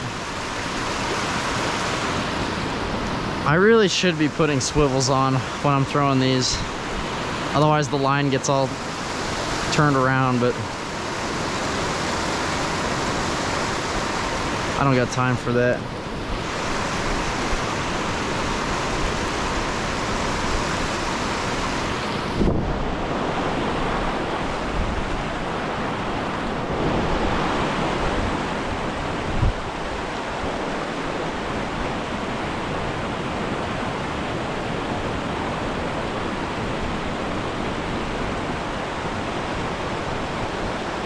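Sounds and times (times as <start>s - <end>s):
rushing river water: 0.0s - 41.0s.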